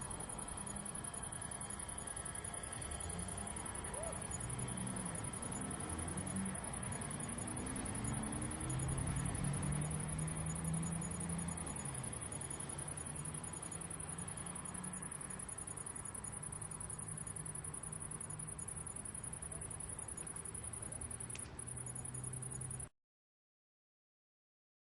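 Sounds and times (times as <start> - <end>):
crickets chirring: 0.0 - 22.9
low city rumble: 0.0 - 22.9.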